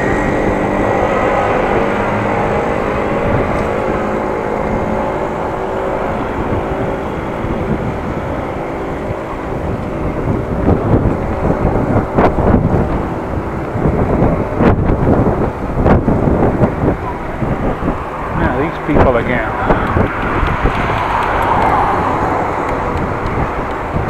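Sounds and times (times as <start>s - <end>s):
car traffic passing: 0.0s - 24.0s
wind rushing over microphone: 0.0s - 24.0s.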